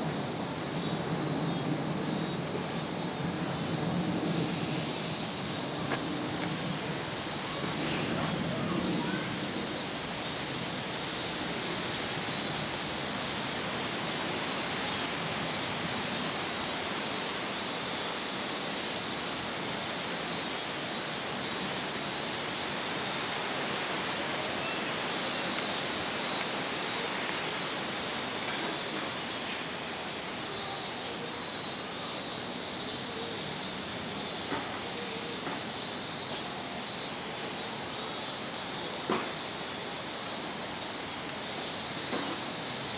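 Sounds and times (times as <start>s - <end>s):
steady outdoor hiss: 0.0s - 42.9s.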